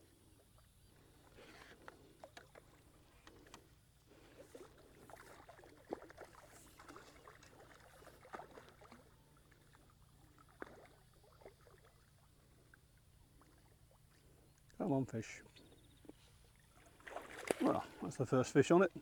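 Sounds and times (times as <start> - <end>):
water splashing and sloshing: 0.1 - 14.9, 15.5 - 19.0.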